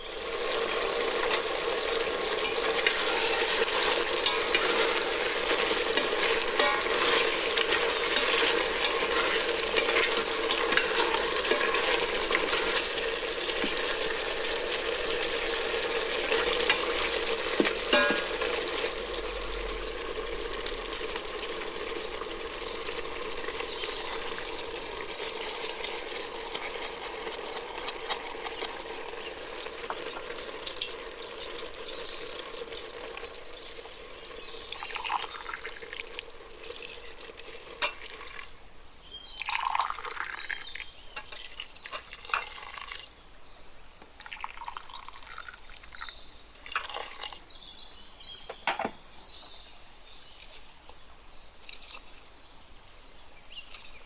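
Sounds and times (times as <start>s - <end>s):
food sizzling and crackling: 0.0s - 38.6s, 39.4s - 43.2s, 44.2s - 47.5s, 50.0s - 54.0s
water pouring and splashing: 0.0s - 38.6s, 39.3s - 43.2s, 44.1s - 47.6s, 51.6s - 52.3s, 53.1s - 54.0s.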